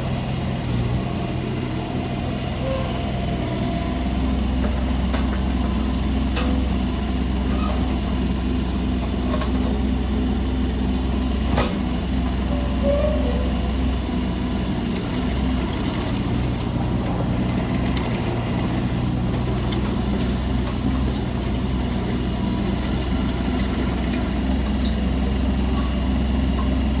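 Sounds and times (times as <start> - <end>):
diesel excavator engine running: 0.0 - 27.0.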